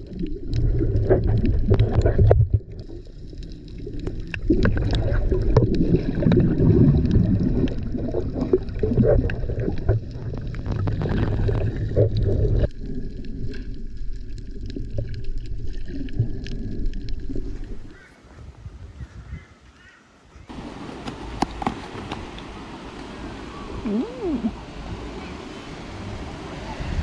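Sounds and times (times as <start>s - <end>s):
rumbling wind and water: 0.0s - 27.0s.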